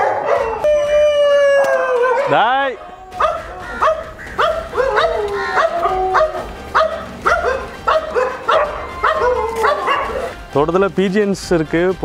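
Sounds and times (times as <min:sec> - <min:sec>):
dogs barking: 0:00.0 - 0:10.5.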